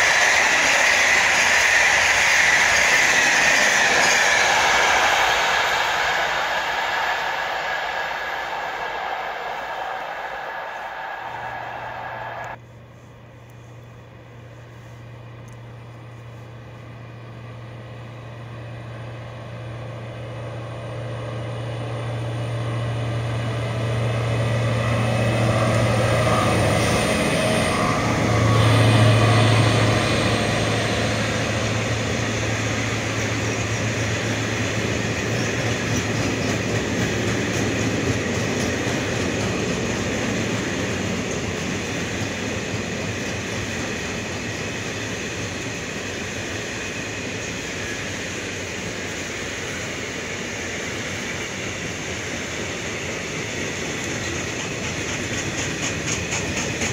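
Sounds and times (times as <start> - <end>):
diesel locomotive engine passing: 0.0 - 56.9.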